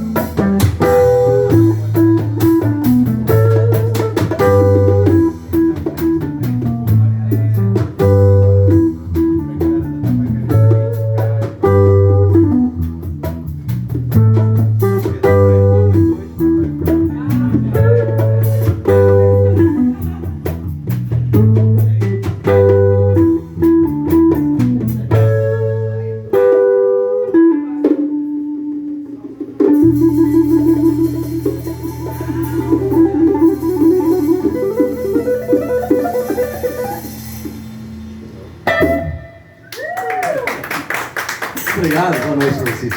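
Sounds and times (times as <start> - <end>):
electric guitar riff: 0.0 - 39.7
blues band playing: 0.0 - 42.9.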